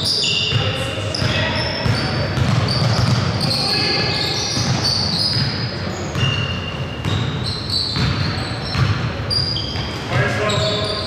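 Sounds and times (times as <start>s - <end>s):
sneakers squeaking on floor: 0.0s - 11.0s
basketball bouncing: 0.5s - 10.0s.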